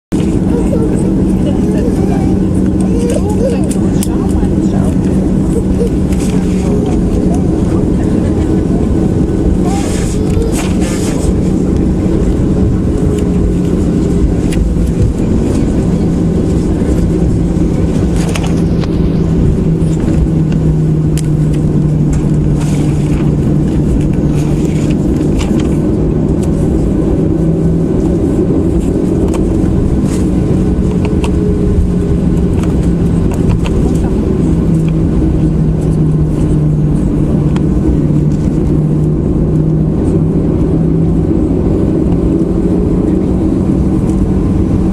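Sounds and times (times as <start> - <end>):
jet engines rumbling: 0.1 - 44.9.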